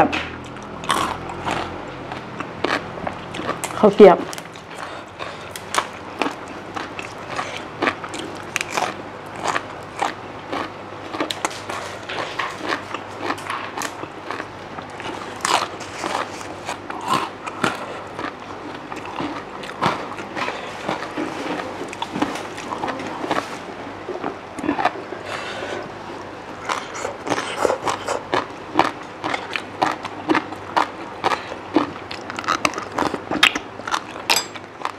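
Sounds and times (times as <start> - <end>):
chewing crunchy food: 0.1 - 34.9.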